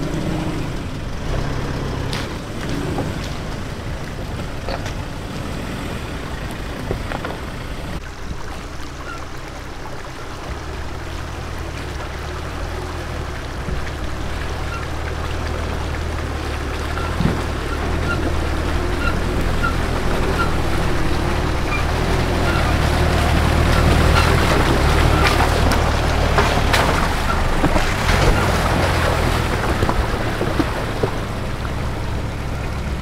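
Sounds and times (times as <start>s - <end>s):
engine running low: 0.0s - 33.0s
water rushing and splashing: 0.0s - 33.0s
sharp splashes and knocks: 0.1s - 33.0s.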